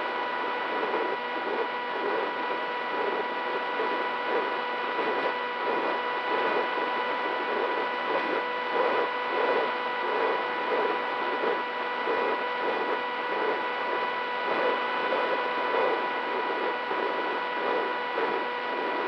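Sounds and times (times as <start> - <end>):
motor whine: 0.2 - 19.0.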